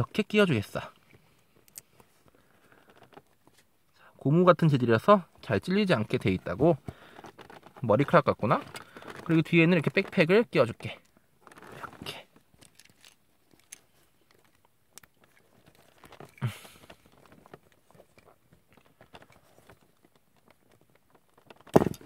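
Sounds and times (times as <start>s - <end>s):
plastic parts clicking and rubbing: 0.0s - 3.9s, 5.0s - 22.0s.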